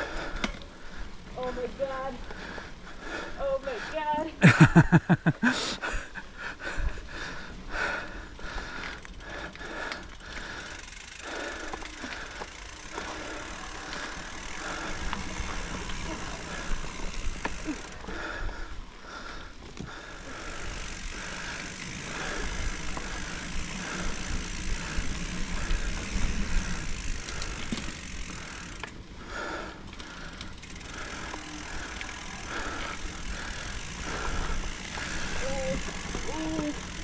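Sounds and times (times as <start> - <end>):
bike rattling and clicking: 0.0 - 37.0
bike tyres rolling on dirt: 0.0 - 37.0.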